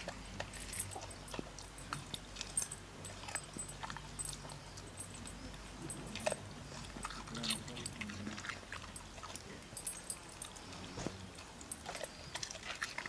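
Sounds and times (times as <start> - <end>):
dog crunching food: 0.0 - 13.0.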